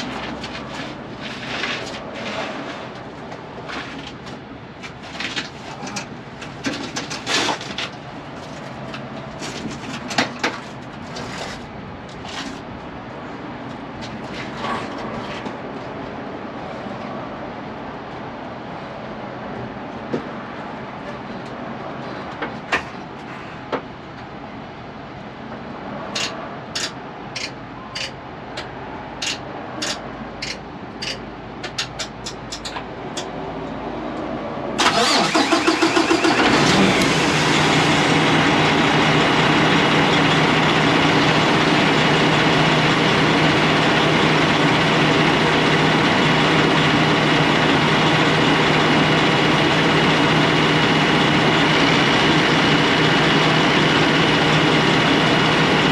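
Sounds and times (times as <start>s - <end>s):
diesel engine cranking and idling: 0.0s - 18.7s, 25.6s - 55.9s.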